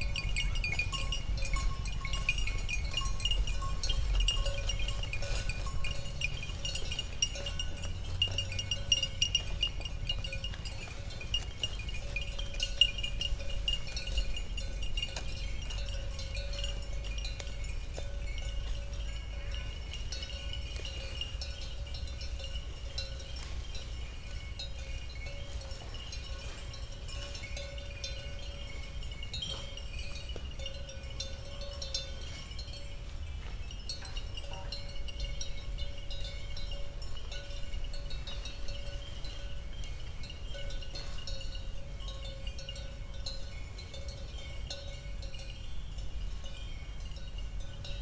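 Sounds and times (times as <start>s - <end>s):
small bells tinkling: 0.0s - 48.0s.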